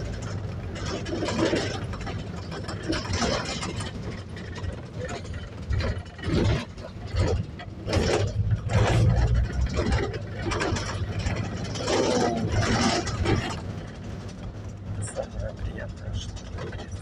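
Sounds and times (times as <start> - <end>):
bus engine rumble: 0.0 - 17.0
knocks and rattles: 0.0 - 17.0.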